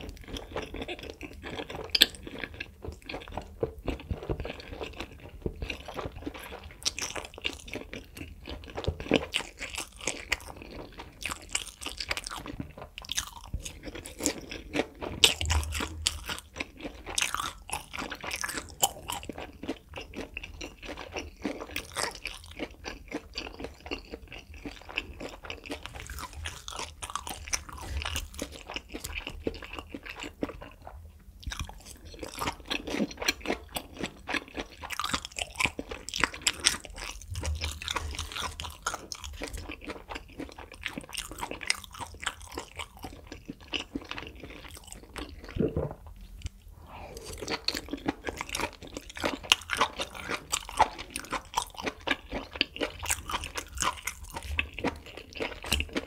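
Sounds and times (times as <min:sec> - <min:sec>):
wet chewing clicks: 0:00.0 - 0:56.0.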